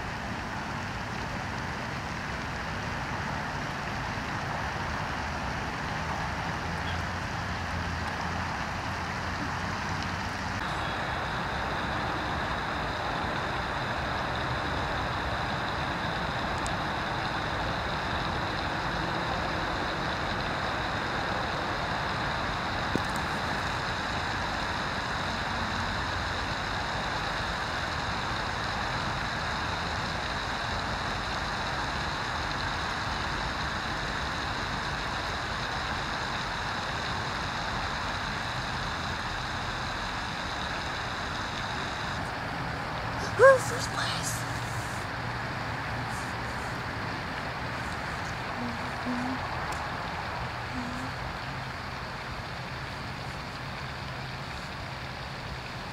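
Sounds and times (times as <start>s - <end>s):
steady background noise: 0.0s - 55.9s.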